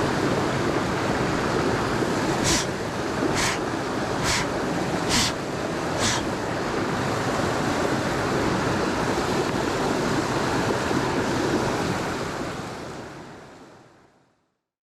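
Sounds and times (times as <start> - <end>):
stream water rushing: 0.0 - 13.7.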